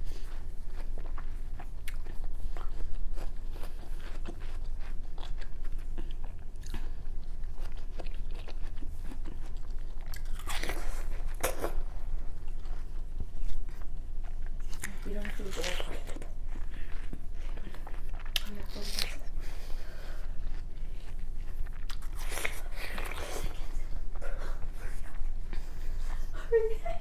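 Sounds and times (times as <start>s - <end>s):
boy chewing watermelon: 0.0s - 27.0s
steady low hum: 0.0s - 27.0s.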